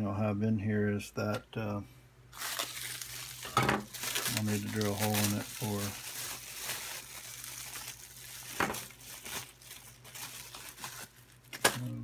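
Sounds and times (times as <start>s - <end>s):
bubble wrap crinkling: 2.3s - 12.0s.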